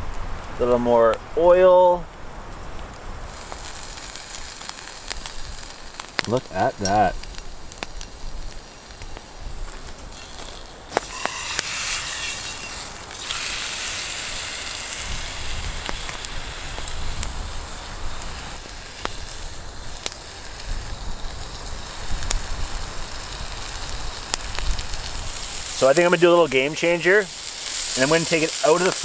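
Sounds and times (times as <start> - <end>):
fire crackling and popping: 0.0 - 29.0
steak sizzling in a pan: 3.3 - 29.0.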